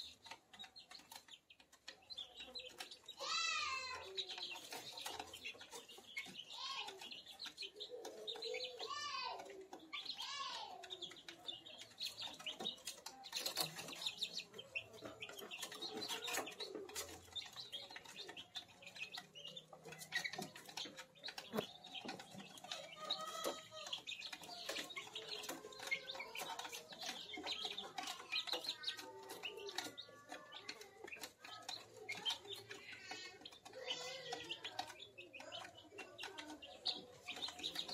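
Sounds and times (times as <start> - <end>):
chicks peeping and chirping: 0.0 - 37.9.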